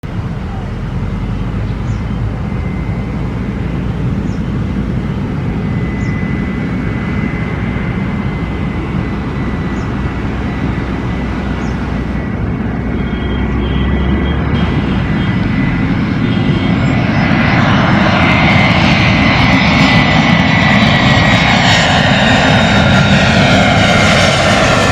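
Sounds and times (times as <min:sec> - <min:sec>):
jet engines rushing and whining: 0:00.0 - 0:24.9.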